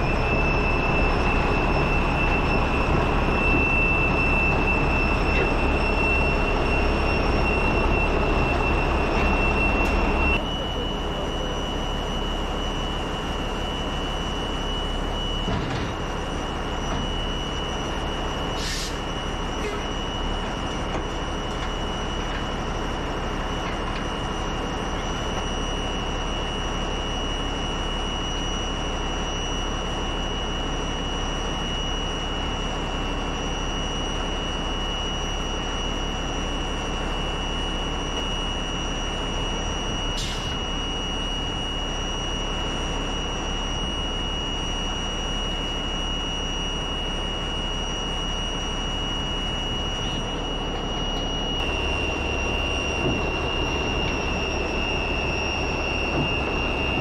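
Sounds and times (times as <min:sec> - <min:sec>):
diesel engine running: 0:00.0 - 0:57.0
high-pitched whine: 0:00.0 - 0:57.0.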